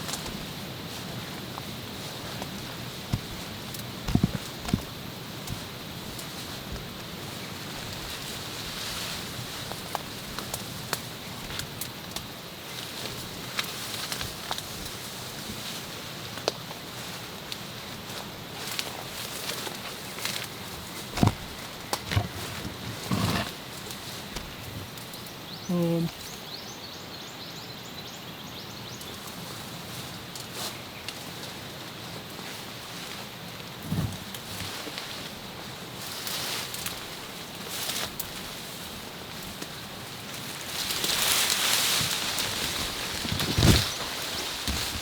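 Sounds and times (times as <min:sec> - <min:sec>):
footsteps through undergrowth: 0:00.0 - 0:25.3, 0:29.2 - 0:45.0
leaves and plants rustling: 0:00.0 - 0:26.8, 0:29.0 - 0:45.0
insects: 0:00.0 - 0:45.0
steady background hiss: 0:00.0 - 0:45.0.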